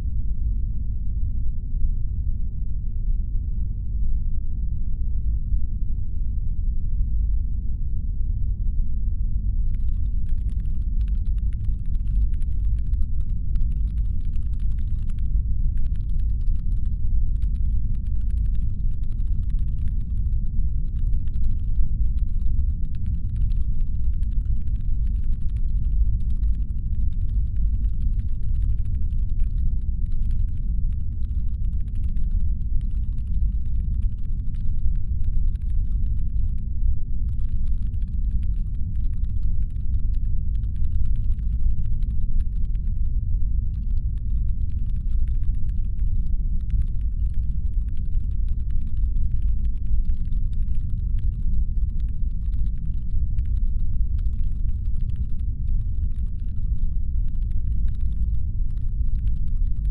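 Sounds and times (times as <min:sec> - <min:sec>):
faint rapid clicking: 0:09.7 - 0:59.9.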